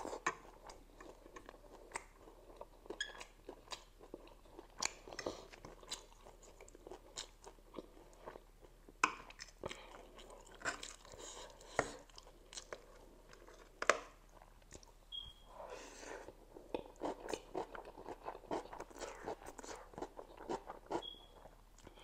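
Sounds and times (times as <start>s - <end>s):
close chewing noodles: 0.0s - 15.0s, 16.1s - 22.0s.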